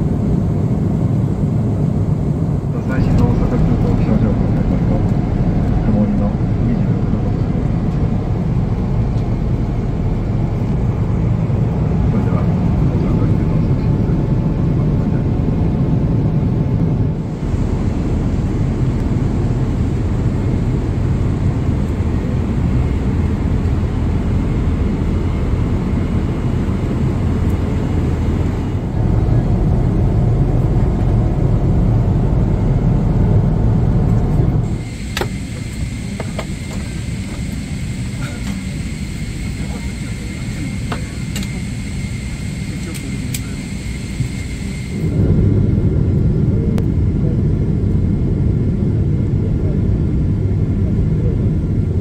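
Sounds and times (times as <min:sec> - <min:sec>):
airplane cabin roar: 0:00.0 - 0:52.0.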